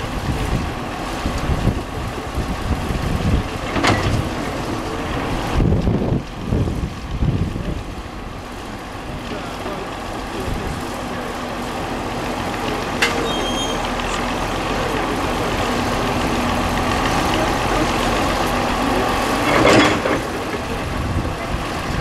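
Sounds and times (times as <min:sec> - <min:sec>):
excavator running: 0:00.0 - 0:22.0.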